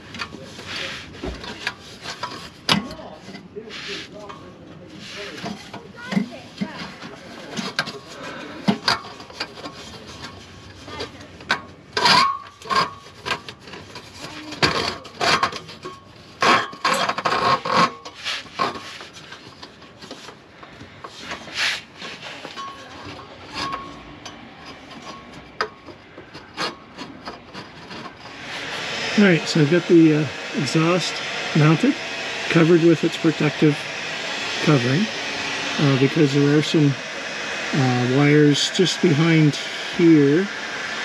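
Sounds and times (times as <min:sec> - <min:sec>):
pipe rubbing and scraping: 0:00.0 - 0:33.9.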